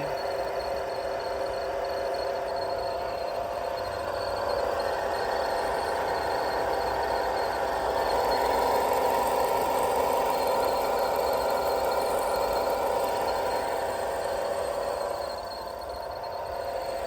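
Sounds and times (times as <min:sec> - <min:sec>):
car engine running with whine: 0:00.0 - 0:17.0.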